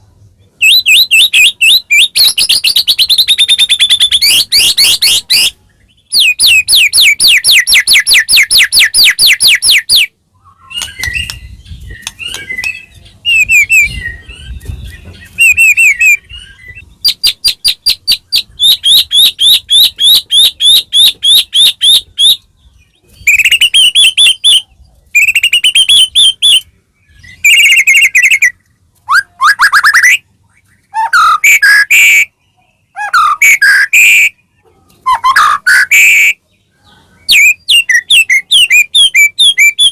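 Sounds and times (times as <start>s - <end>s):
bird singing whistled notes: 0.6s - 39.9s.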